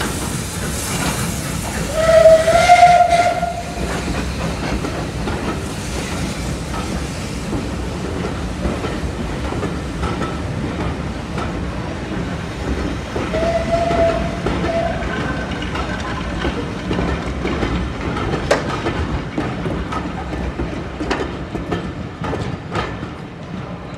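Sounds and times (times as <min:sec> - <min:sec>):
train wheels clicking over rail joints: 0:00.0 - 0:23.9.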